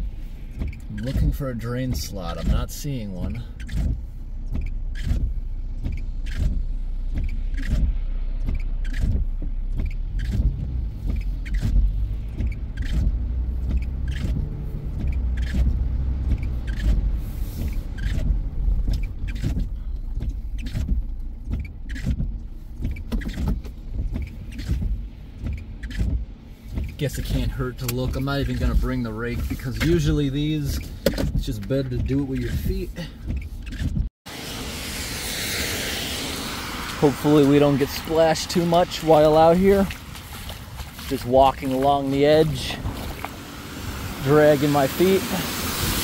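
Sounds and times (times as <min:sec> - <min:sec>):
car engine and tyres on wet road: 0:00.0 - 0:46.0
rain hitting windshield: 0:00.0 - 0:46.0.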